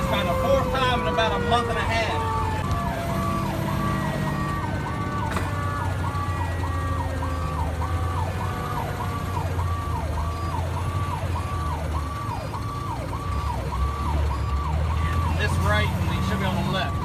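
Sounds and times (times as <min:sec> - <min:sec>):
fire engine siren yelping: 0:00.0 - 0:17.0
truck engine drone: 0:00.0 - 0:17.0.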